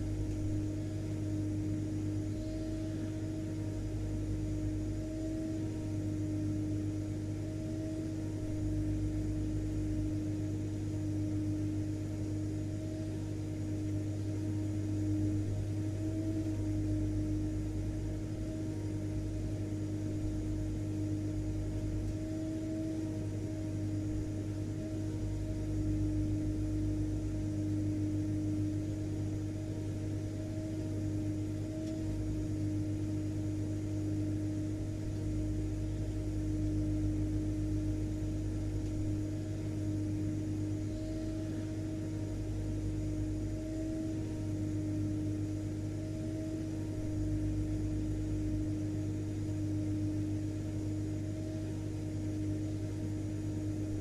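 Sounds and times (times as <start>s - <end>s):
vacuum cleaner running: 0.0s - 17.7s, 18.3s - 54.0s.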